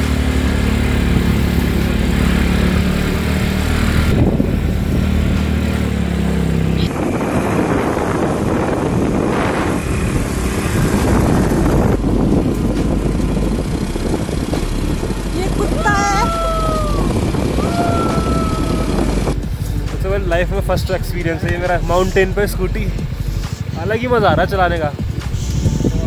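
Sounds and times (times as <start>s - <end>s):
motor scooter engine humming: 0.0s - 26.0s
rough rushing noise: 0.0s - 26.0s.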